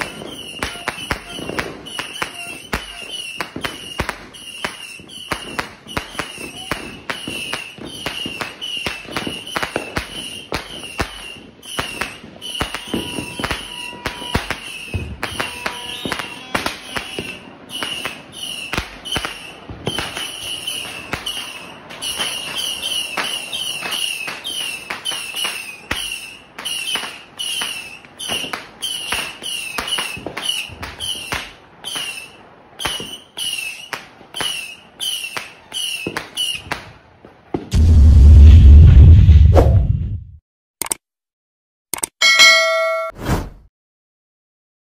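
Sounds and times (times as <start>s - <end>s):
firework shots whistling and cracking: 0.0s - 36.9s.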